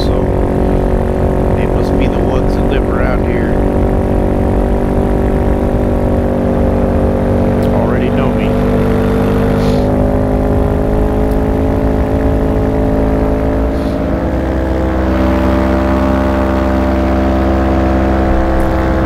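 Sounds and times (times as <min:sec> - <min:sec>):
paramotor engine and propeller: 0:00.0 - 0:19.0.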